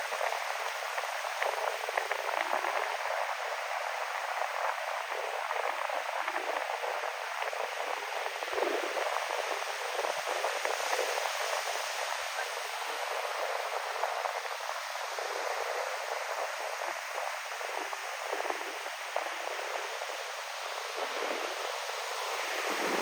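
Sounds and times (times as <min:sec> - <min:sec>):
fine crackle: 0:00.0 - 0:23.0
ocean waves: 0:00.0 - 0:23.0
wind: 0:00.0 - 0:23.0.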